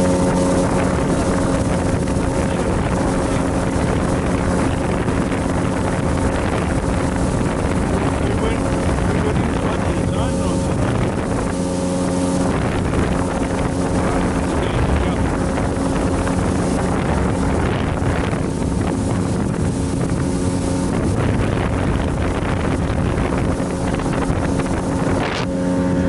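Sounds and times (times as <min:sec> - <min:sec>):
motorboat engine running: 0:00.0 - 0:26.0
wind buffeting microphone: 0:00.0 - 0:26.0.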